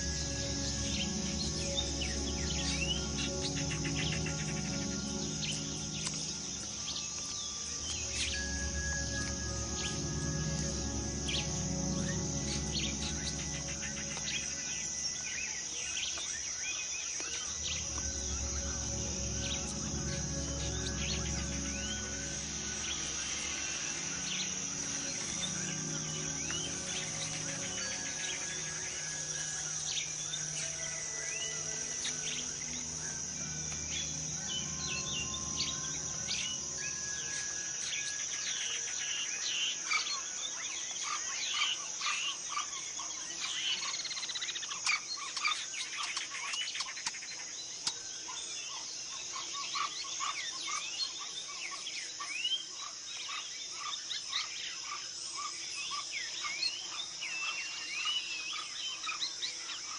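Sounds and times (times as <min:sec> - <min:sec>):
frogs and insects chirping: 0:00.0 - 0:59.9
high-pitched insect drone: 0:00.0 - 0:59.9.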